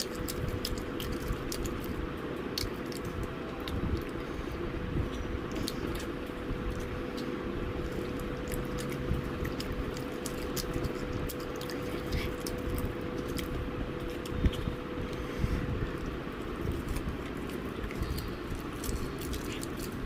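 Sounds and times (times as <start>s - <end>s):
person chewing crispy food: 0.0s - 20.0s
steady background hum: 0.0s - 20.0s.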